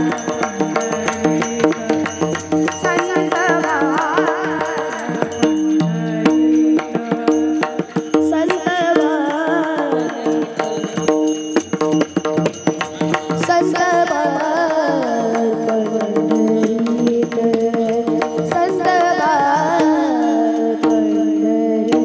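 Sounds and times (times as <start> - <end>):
hand-drum strokes: 0.0 - 22.0.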